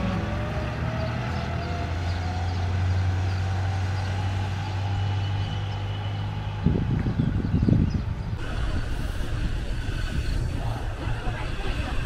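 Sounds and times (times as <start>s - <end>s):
rough low rumbling: 0.0s - 12.0s
vehicle engine humming: 0.0s - 12.0s.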